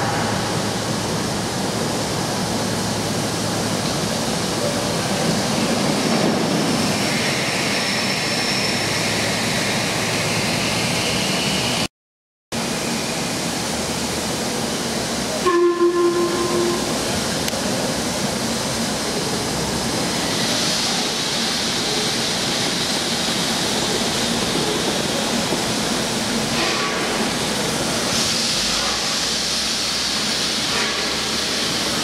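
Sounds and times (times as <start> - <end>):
steam hissing from locomotive: 0.0 - 11.9, 12.6 - 32.0.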